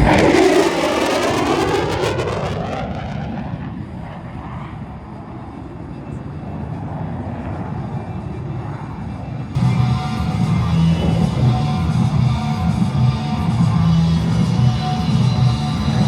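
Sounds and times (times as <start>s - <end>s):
military jet roar: 0.0s - 16.0s.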